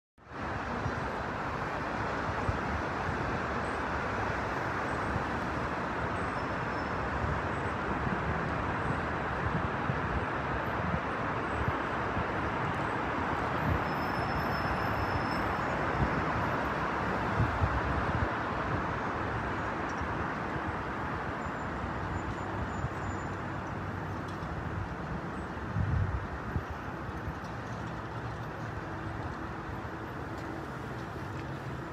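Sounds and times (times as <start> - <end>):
road traffic: 0.2 - 31.9.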